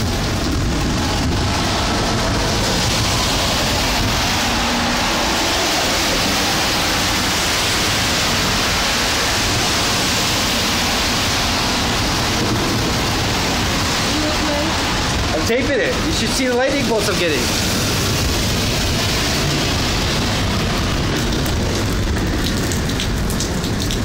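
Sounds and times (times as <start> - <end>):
heavy pouring rain: 0.0 - 24.0.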